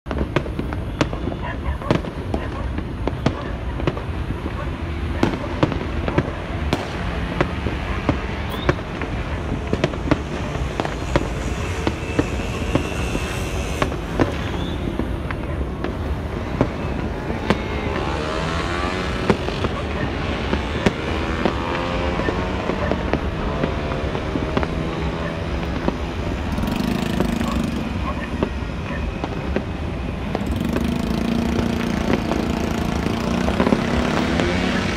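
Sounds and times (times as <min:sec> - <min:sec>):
firecrackers crackling: 0:00.1 - 0:34.9
fireworks bangs: 0:00.1 - 0:34.9.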